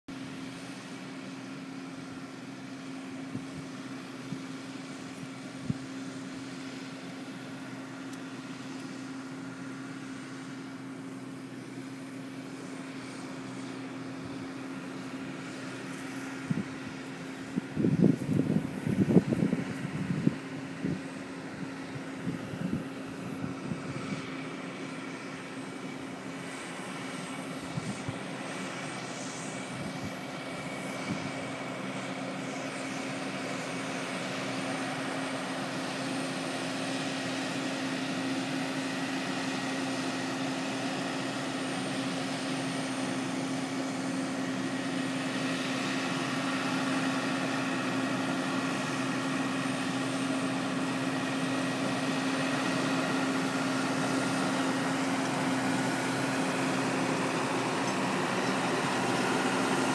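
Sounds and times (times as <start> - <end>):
tractor engine droning: 0.1 - 59.9.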